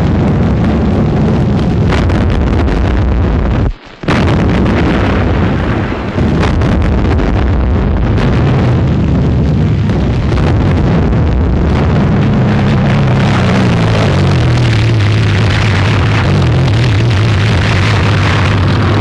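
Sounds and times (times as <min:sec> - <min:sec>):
shell explosions and artillery fire: 0:00.0 - 0:19.0.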